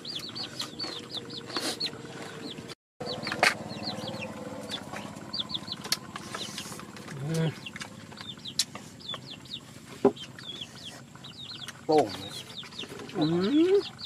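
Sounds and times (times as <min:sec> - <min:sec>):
chicks peeping: 0:00.0 - 0:14.0
low steady hum: 0:00.0 - 0:14.0.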